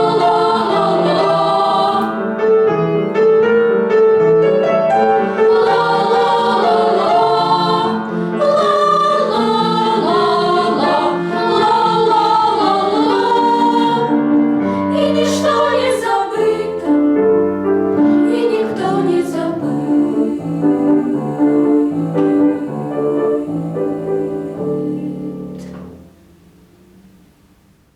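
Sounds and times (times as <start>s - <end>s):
vocal ensemble singing: 0.0s - 3.2s, 4.8s - 26.0s
instrumental accompaniment: 0.0s - 27.6s.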